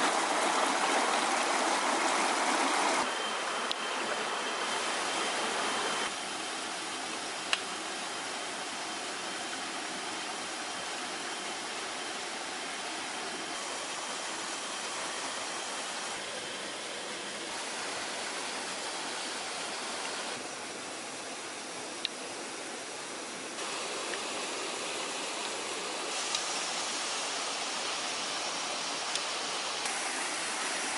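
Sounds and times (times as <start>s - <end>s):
faint high whine: 0.0s - 30.9s
stream water rushing: 0.0s - 30.9s.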